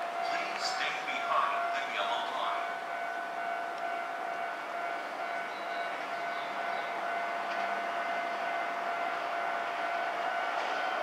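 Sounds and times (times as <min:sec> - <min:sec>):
train approaching: 0:00.0 - 0:11.0.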